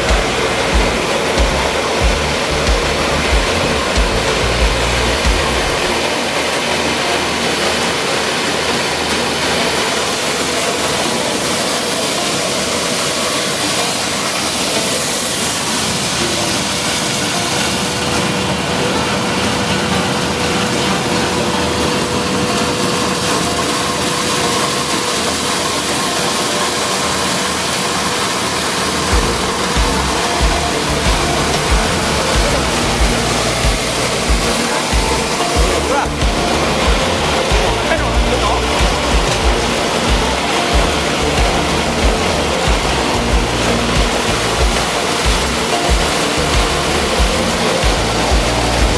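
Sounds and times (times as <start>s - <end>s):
electric grain mill running: 0.0s - 48.9s.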